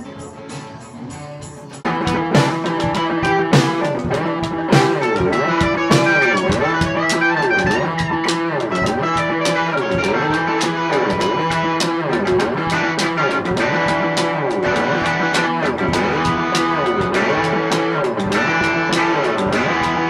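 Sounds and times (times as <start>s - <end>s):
guitar strummed: 0.0s - 20.0s.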